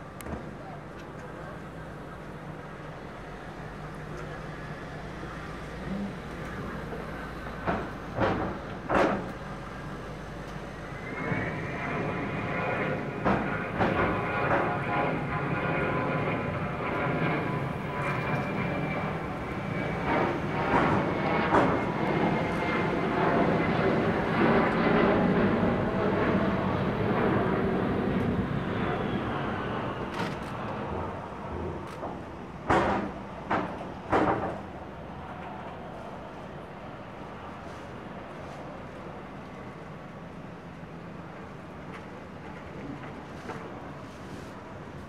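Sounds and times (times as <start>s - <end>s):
jet engine rumble and whine: 0.0s - 45.0s.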